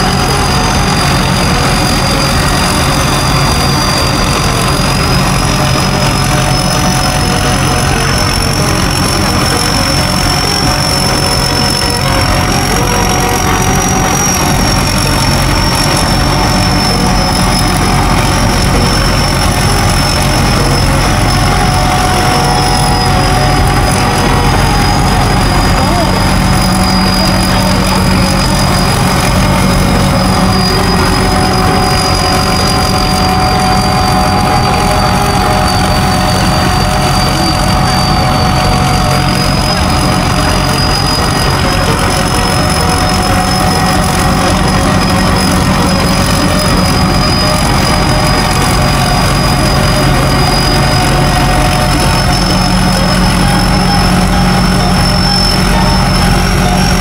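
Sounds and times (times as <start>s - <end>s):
engine running steadily: 0.0s - 57.0s
high whine: 0.0s - 57.0s.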